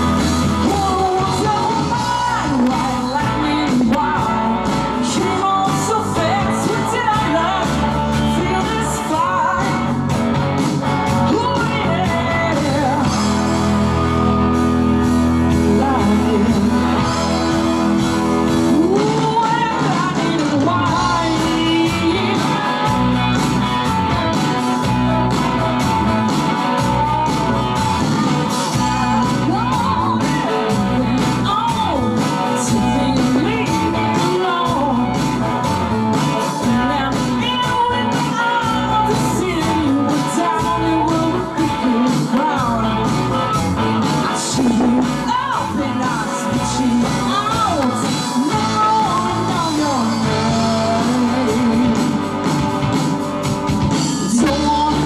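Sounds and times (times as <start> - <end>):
live rock band: 0.0 - 55.0
woman singing lead: 0.0 - 55.0.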